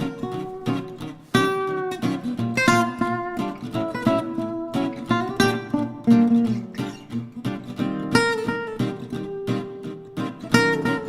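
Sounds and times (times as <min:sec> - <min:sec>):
acoustic guitar plucked notes: 0:00.0 - 0:11.0.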